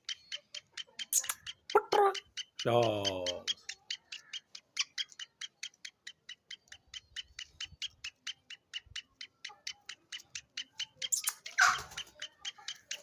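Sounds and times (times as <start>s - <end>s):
francolin clicking call: 0.0s - 13.0s.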